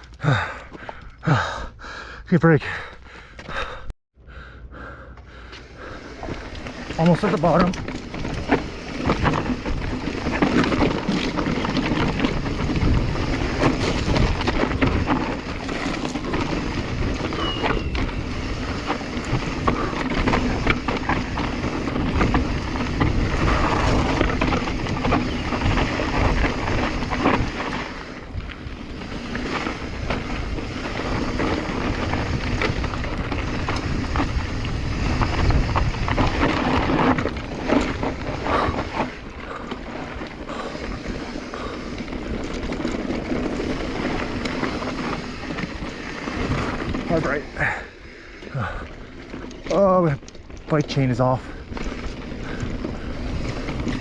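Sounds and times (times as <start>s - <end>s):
bike rattling over bumps: 0.0s - 1.6s, 4.8s - 54.0s
tyres on dirt and gravel: 4.8s - 54.0s
wind buffeting microphone: 5.8s - 54.0s.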